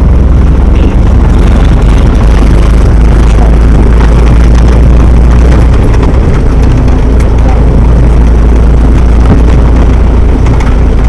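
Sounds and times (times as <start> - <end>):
jeep engine low rumble: 0.0 - 11.0.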